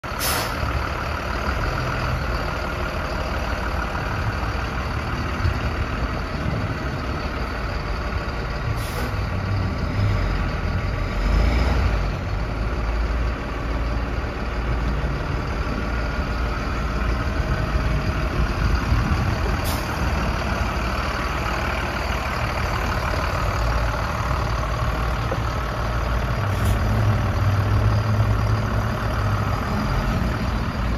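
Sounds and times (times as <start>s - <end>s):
diesel truck engine idling: 0.0s - 30.9s.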